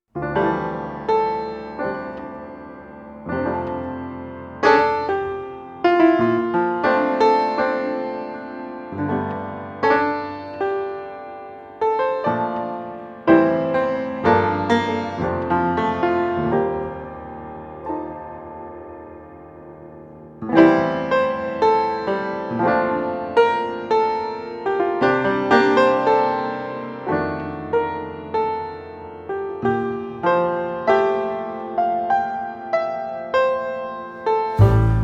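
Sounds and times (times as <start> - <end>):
slow piano music: 0.2 - 35.0.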